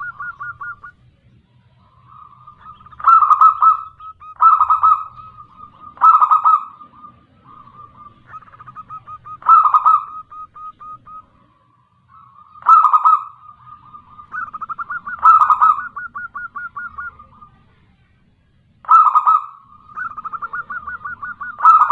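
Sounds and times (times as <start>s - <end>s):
dove cooing: 0.0s - 1.1s, 1.8s - 21.9s.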